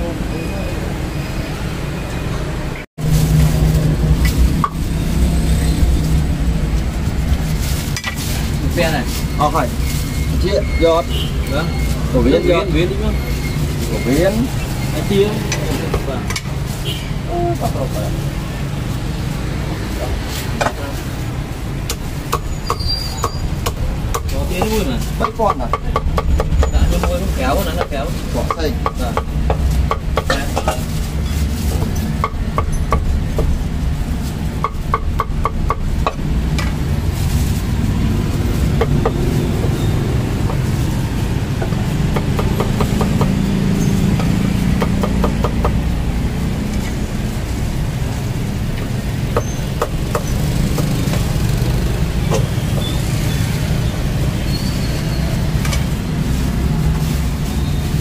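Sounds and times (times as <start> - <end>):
low street traffic rumble: 0.0 - 58.0.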